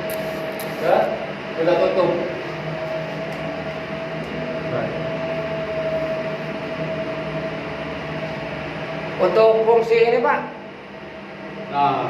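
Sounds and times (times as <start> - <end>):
mid-pitched machine whine: 0.0 - 12.0
pool machinery humming: 0.0 - 12.0.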